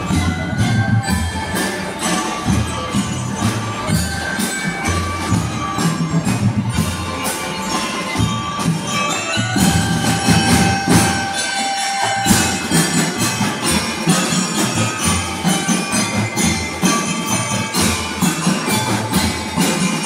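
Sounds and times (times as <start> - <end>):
bell lyres ringing a tune: 0.0 - 20.0
marching bass and snare drums: 0.0 - 20.0.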